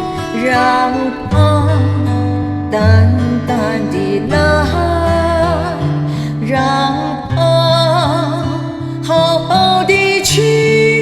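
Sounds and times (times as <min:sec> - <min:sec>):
karaoke backing track with guitar: 0:00.0 - 0:11.0
woman singing a slow ballad: 0:00.0 - 0:11.0.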